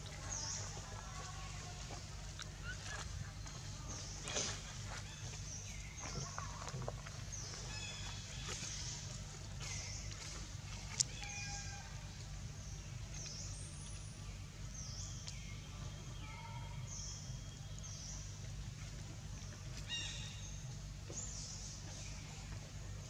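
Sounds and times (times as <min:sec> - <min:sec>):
birds chirping: 0:00.0 - 0:23.0
low background hum: 0:00.0 - 0:23.0.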